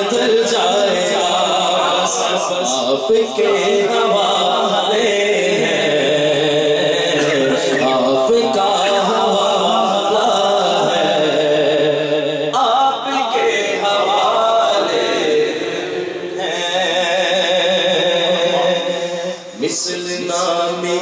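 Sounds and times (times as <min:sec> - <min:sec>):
man singing into microphone: 0:00.0 - 0:21.0.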